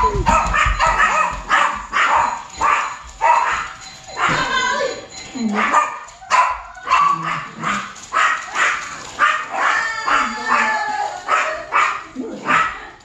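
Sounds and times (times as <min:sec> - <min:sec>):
dog barking: 0:00.2 - 0:04.7, 0:05.5 - 0:12.9.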